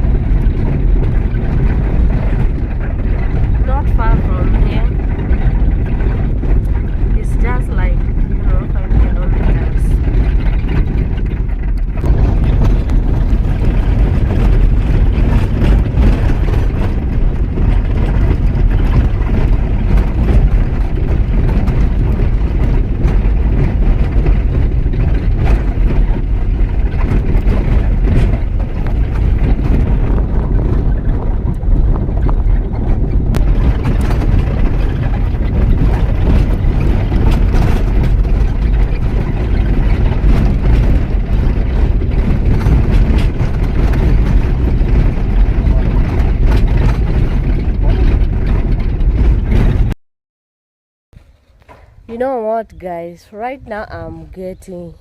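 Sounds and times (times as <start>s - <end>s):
vehicle rumbling on dirt road: 0.0s - 50.0s, 51.2s - 55.0s.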